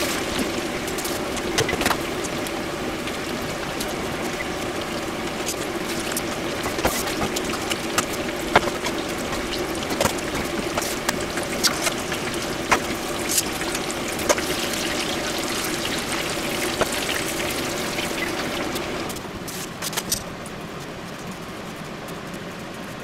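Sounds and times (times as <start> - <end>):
deep-frying sizzle with pops: 0.0 - 23.0.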